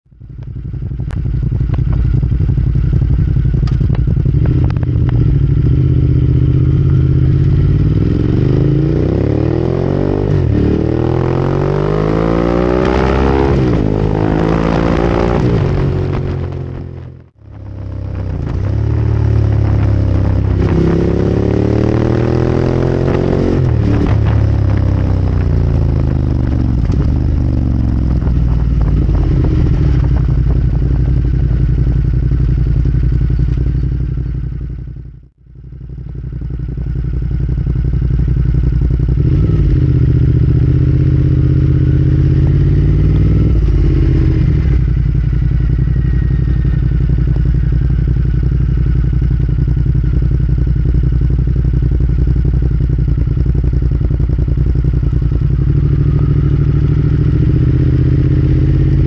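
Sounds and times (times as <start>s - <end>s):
motorcycle engine accelerating: 0.1s - 59.0s.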